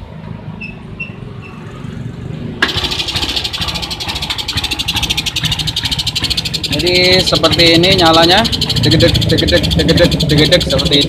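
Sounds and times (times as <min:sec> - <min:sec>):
motorcycle engine starting and stuttering: 0:00.8 - 0:11.0.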